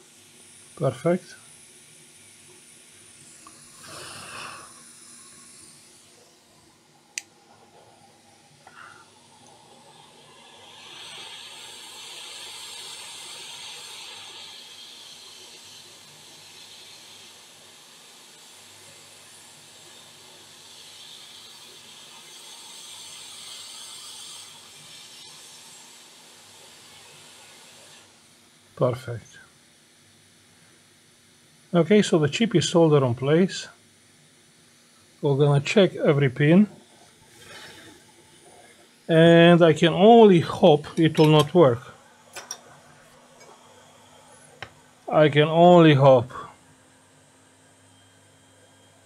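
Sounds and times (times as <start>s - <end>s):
hot air station hissing: 0.0s - 49.0s
soldering iron flux sizzling: 0.0s - 49.0s.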